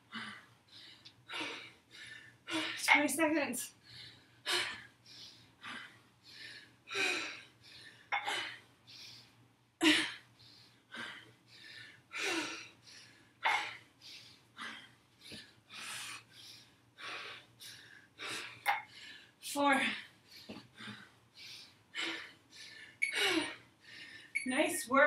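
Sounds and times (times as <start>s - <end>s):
woman breathing hard: 0.0s - 2.8s, 3.8s - 24.4s.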